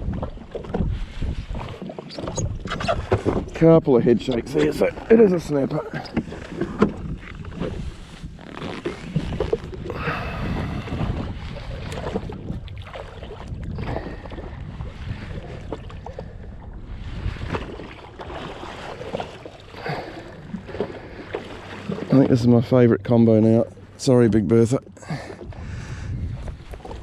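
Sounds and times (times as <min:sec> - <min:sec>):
water sloshing against hull: 0:00.0 - 0:27.0
wind buffeting microphone: 0:00.0 - 0:27.0.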